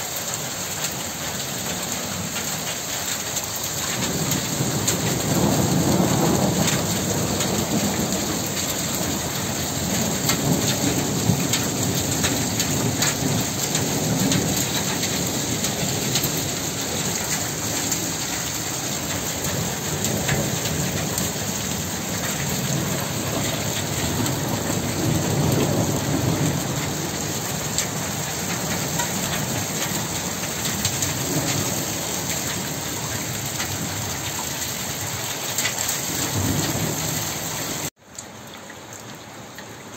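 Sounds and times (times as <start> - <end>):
heavy rain falling: 0.0 - 39.9
rolling thunder: 3.9 - 34.2, 36.0 - 37.9.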